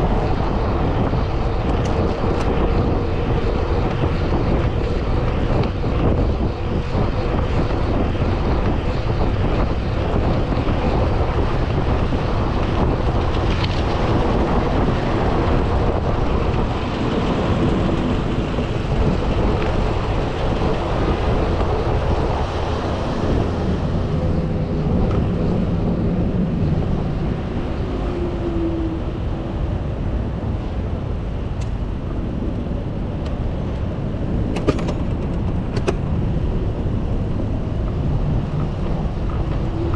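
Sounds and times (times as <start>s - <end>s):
motor traffic: 0.0s - 39.9s
wind on microphone: 0.0s - 39.9s.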